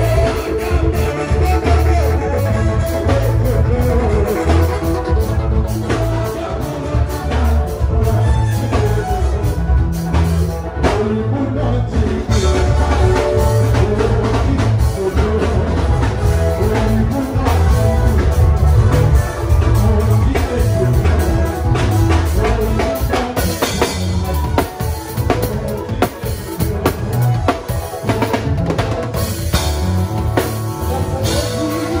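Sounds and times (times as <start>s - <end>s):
band music: 0.0s - 32.0s
drum kit beat: 0.0s - 32.0s.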